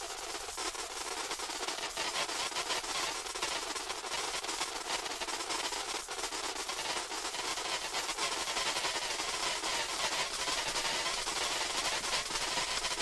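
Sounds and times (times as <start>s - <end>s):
dense granular hiss with clicks: 0.0s - 13.0s.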